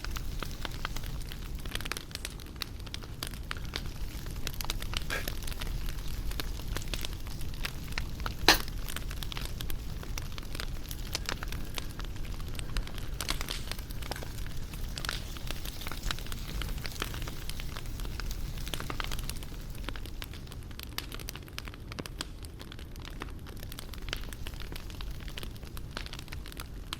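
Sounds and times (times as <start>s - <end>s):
low rumble of flame: 0.0s - 26.9s
wood fire crackling: 0.0s - 26.9s.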